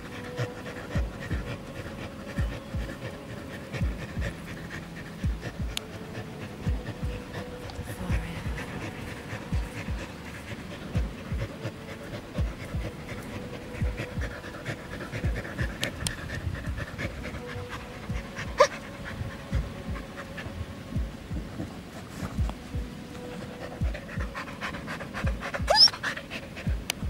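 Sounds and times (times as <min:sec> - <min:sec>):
dog panting: 0:00.0 - 0:27.0.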